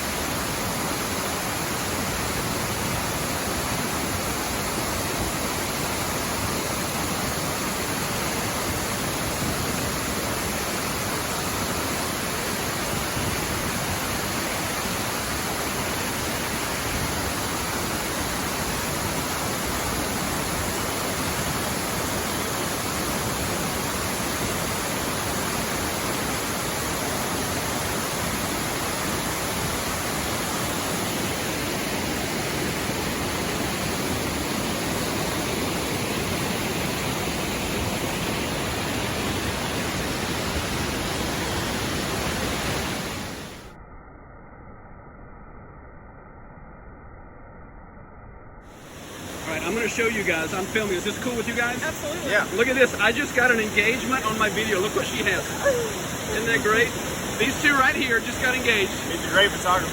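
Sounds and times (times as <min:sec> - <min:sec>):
waterfall rushing: 0:00.0 - 0:43.7, 0:48.8 - 0:59.9.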